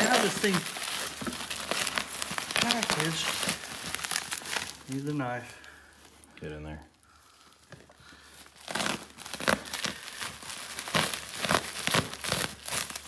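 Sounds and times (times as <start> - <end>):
plastic wrap crinkling and tearing: 0.0 - 6.3, 6.9 - 13.0.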